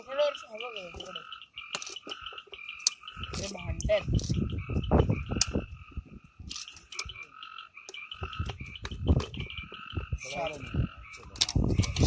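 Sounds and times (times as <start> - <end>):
frogs calling: 0.0 - 12.0.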